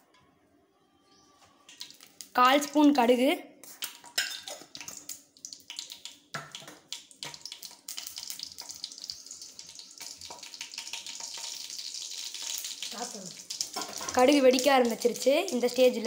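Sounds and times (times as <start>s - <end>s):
frying sizzle: 1.7s - 3.0s, 3.8s - 16.0s
seeds popping in hot oil: 1.7s - 3.0s, 3.6s - 16.0s.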